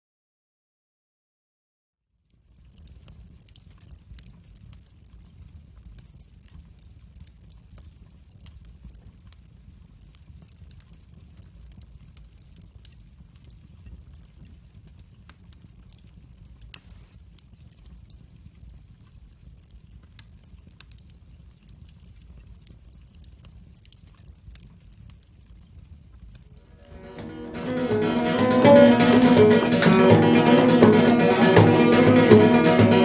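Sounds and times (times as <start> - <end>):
wood fire crackling: 2.2 - 33.0.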